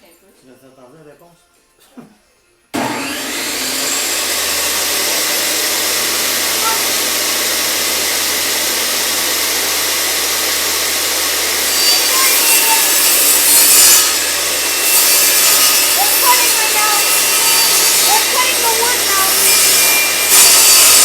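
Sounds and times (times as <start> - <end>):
table saw cutting plywood: 2.8 - 21.0.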